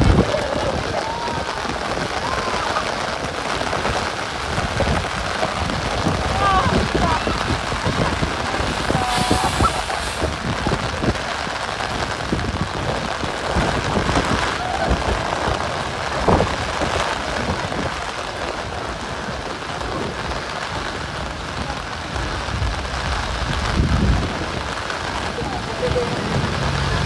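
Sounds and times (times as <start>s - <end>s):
heavy rain pattering: 0.0s - 27.0s.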